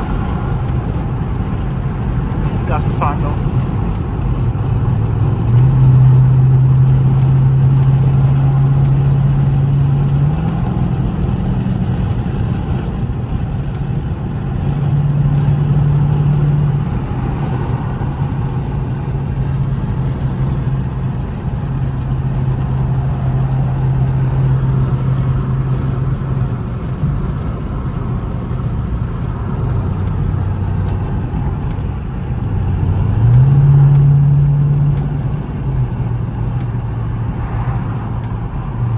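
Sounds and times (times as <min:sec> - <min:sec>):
car exhaust droning: 0:00.0 - 0:38.9
road noise: 0:00.0 - 0:38.9.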